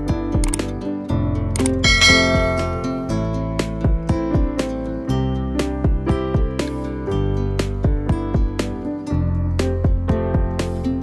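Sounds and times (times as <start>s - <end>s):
strummed acoustic guitar music: 0.0s - 11.0s.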